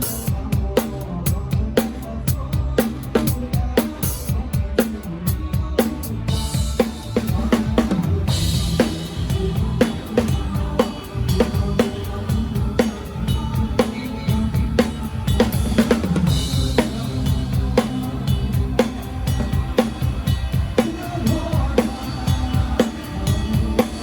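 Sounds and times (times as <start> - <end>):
bass guitar: 0.0 - 24.0
drum kit playing a steady beat: 0.0 - 24.0.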